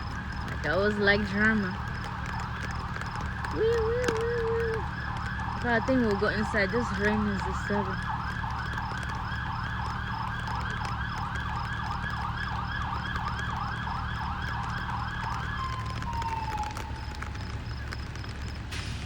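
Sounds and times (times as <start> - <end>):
siren yelping: 0.0 - 18.5.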